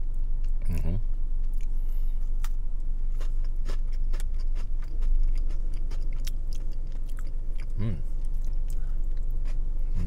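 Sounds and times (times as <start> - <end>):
steady low hum: 0.0 - 10.0
person chewing biscuit: 1.4 - 10.0.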